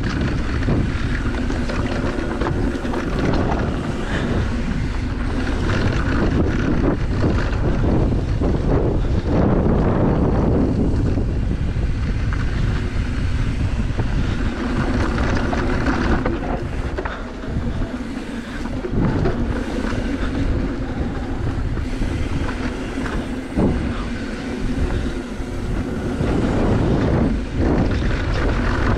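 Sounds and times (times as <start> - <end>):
bike rattling: 0.0 - 28.9
bike tyre noise: 0.0 - 28.9
wind rush on microphone: 0.0 - 28.9.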